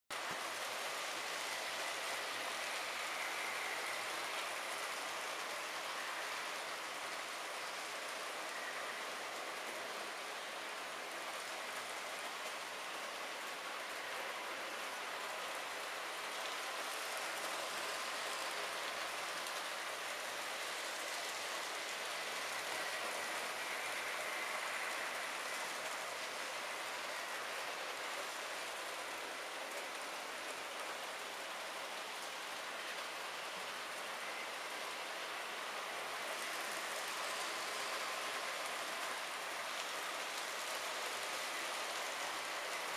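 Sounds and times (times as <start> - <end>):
model train wheels rolling on rail: 0.1 - 42.9.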